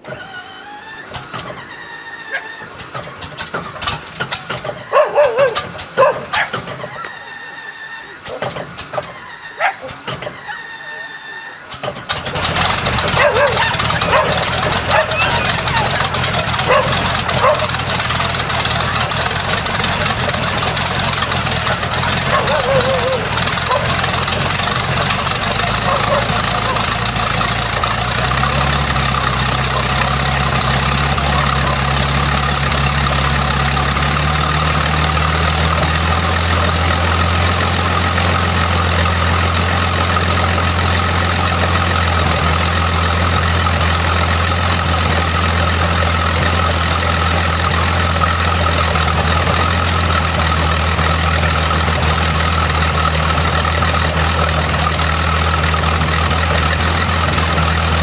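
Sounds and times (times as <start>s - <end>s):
aircraft piston engine running: 0.0s - 7.2s, 11.6s - 58.0s.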